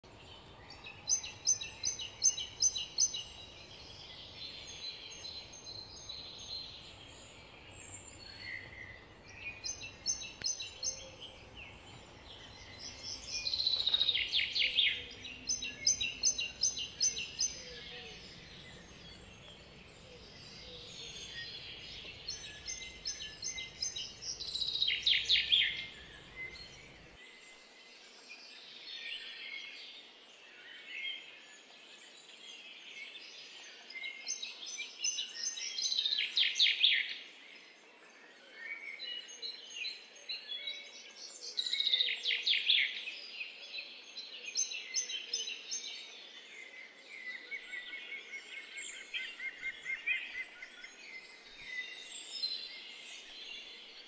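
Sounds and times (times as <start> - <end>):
faint outdoor background: 0.0 - 54.0
songbirds singing: 0.0 - 54.0.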